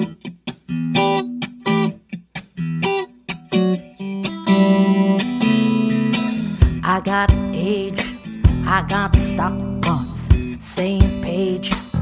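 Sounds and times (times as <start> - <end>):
guitar chord stabs: 0.0 - 12.0.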